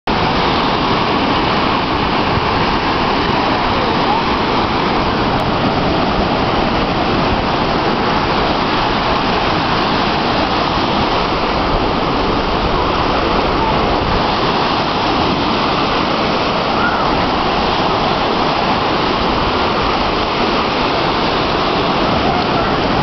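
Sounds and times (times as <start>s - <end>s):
small waves washing on beach: 0.1s - 23.0s.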